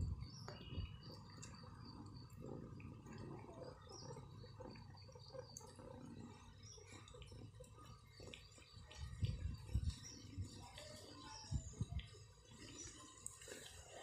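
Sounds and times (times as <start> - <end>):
cat chewing and licking: 0.4 - 14.0.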